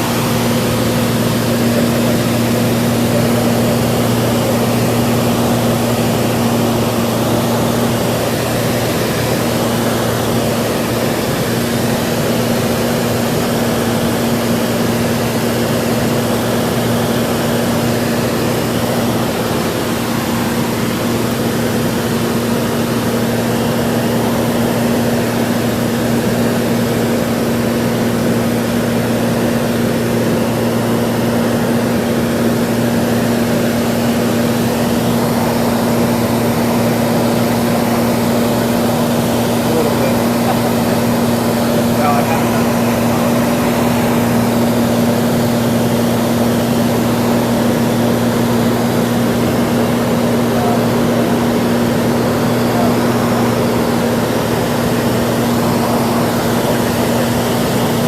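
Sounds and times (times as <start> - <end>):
propeller aircraft engine drone: 0.0 - 58.0.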